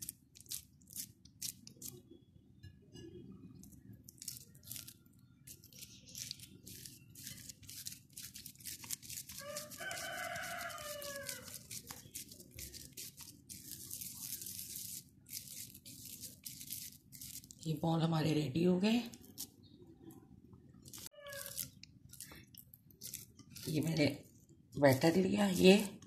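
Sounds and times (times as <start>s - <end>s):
wet squelches of mashed potato: 3.2s - 17.7s, 19.0s - 26.0s.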